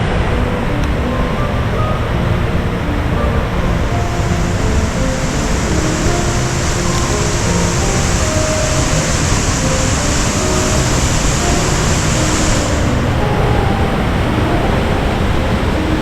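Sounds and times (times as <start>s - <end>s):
waterfall roaring: 2.1s - 16.0s.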